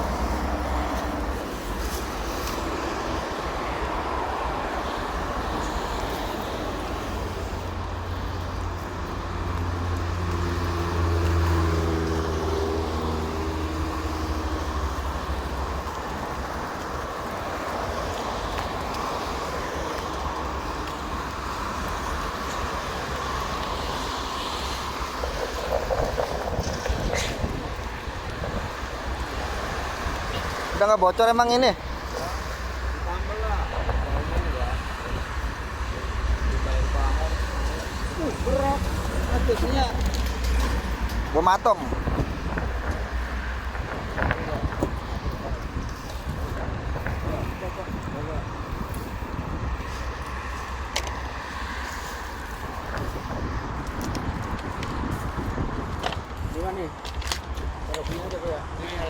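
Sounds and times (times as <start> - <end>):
water noise: 0.0 - 56.5
wind: 0.0 - 59.0.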